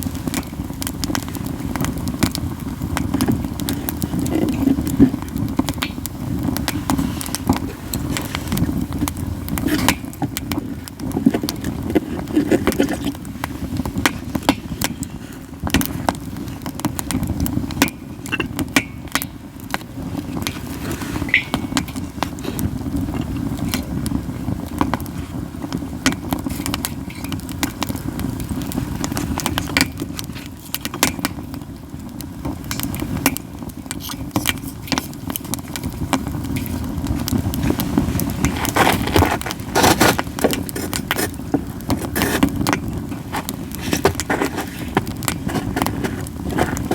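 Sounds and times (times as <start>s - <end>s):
campfire crackling and popping: 0.0s - 46.9s
low fire rumble: 0.0s - 46.9s.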